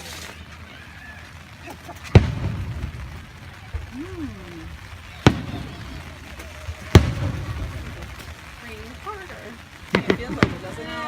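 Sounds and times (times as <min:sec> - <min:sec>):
rolling rumble: 0:00.0 - 0:11.0
firework shells bursting: 0:01.7 - 0:11.0.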